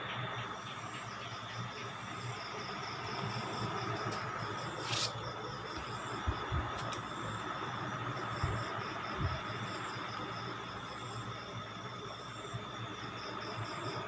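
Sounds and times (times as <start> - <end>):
constant hiss: 0.0 - 14.0
crickets chirping: 0.0 - 14.0.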